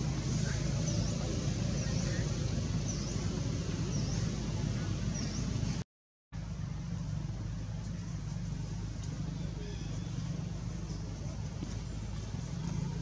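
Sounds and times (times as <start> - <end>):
low engine hum: 0.0 - 5.8, 6.4 - 13.0.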